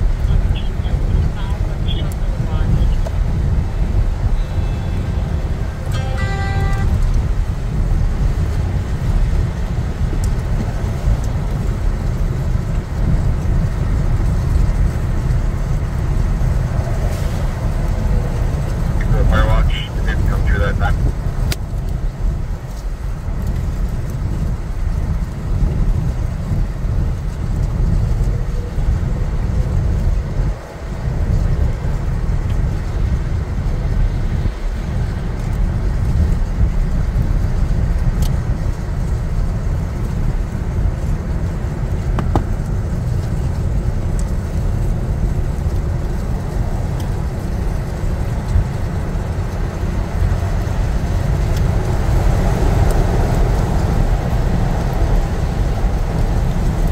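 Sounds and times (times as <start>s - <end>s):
wind buffeting microphone: 0.0s - 6.0s, 6.8s - 56.9s
vehicle road noise: 0.0s - 56.9s.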